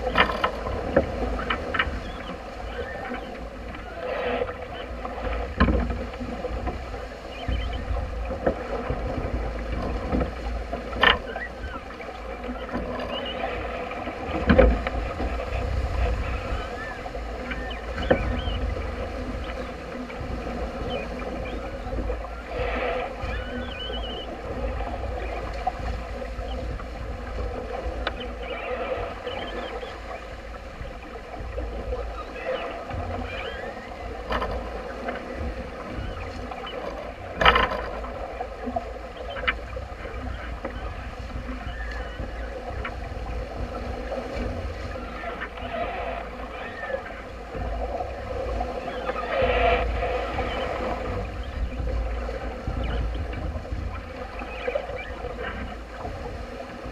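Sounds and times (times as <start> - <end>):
water rushing along hull: 0.0 - 56.9
wind buffeting microphone: 0.0 - 56.9.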